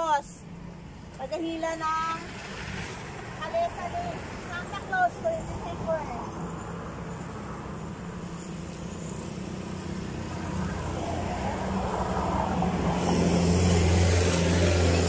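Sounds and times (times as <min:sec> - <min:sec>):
vehicle engine drone and tyre hiss: 0:02.2 - 0:15.0.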